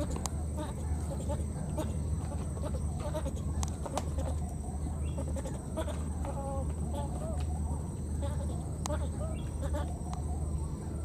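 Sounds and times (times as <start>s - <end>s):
high-pitched animal calls: 0.0s - 11.0s.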